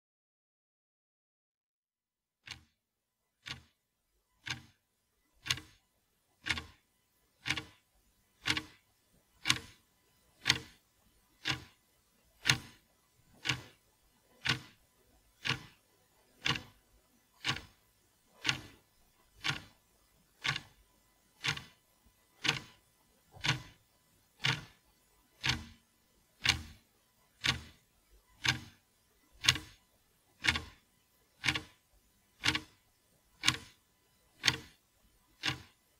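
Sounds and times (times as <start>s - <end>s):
sharp clock-like ticking: 2.4s - 2.8s, 3.4s - 3.8s, 4.4s - 4.8s, 5.4s - 35.9s.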